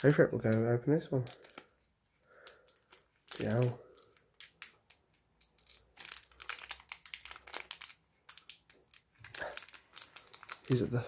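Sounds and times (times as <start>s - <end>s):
foil wrapper crinkling: 0.0s - 1.7s, 2.3s - 11.0s.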